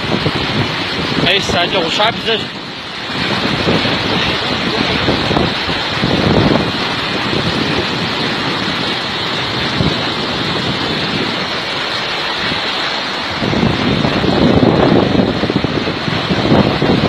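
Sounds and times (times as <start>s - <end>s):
stream rushing over rocks: 0.0s - 17.0s
wind gusting on microphone: 0.0s - 17.0s.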